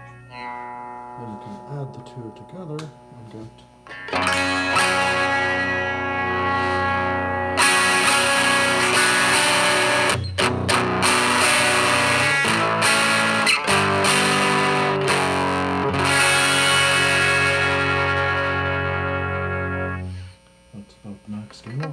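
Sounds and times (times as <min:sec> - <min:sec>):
distorted electric guitar chords: 0:00.0 - 0:20.7.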